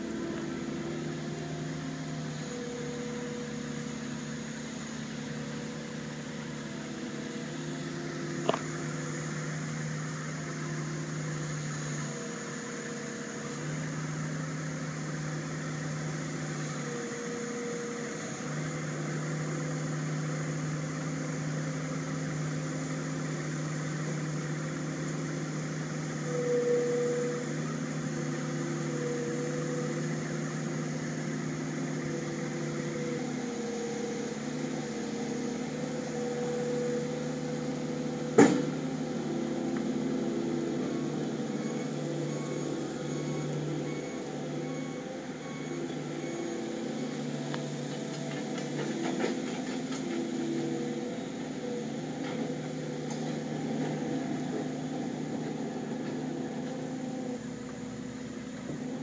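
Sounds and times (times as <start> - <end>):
diesel engine running: 0.0 - 59.0
hydraulic whine: 0.0 - 59.0.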